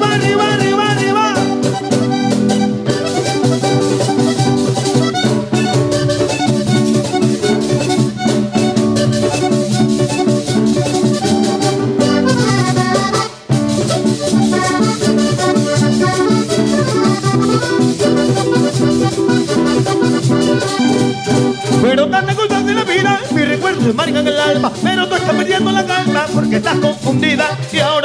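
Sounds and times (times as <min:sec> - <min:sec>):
button accordion: 0:00.0 - 0:28.0
guitar: 0:00.0 - 0:28.0
percussion: 0:00.0 - 0:28.0.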